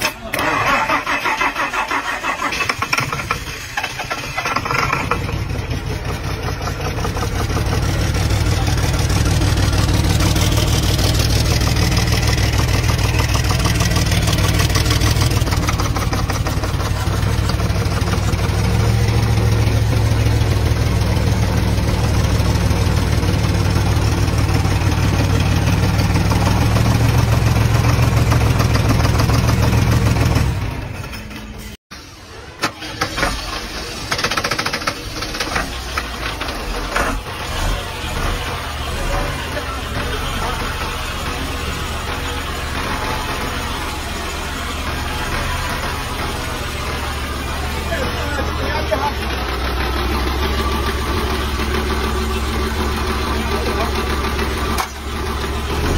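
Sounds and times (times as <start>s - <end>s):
diesel engine cranking and idling: 0.0s - 55.9s.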